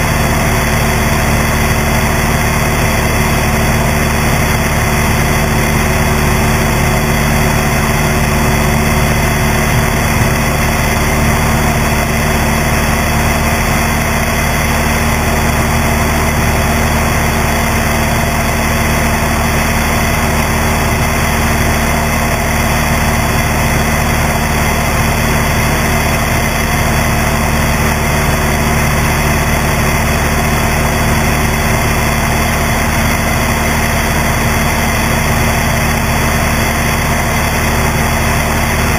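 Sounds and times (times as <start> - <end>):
airplane engine and propeller droning: 0.0 - 38.9.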